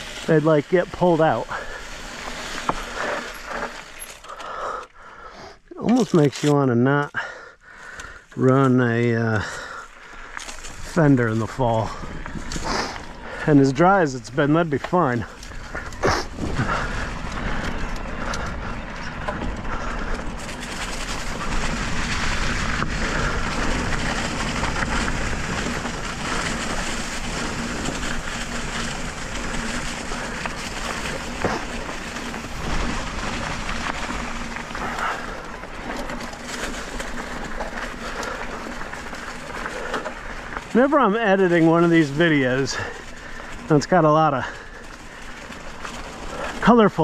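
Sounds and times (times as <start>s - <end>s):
bike tyres rolling over leaves: 0.0s - 47.0s.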